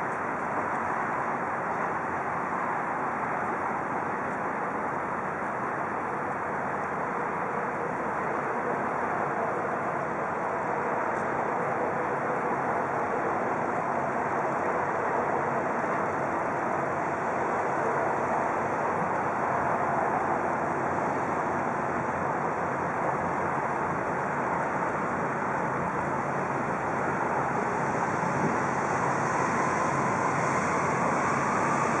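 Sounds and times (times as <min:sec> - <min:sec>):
water: 0:00.0 - 0:32.0
wind: 0:00.0 - 0:32.0.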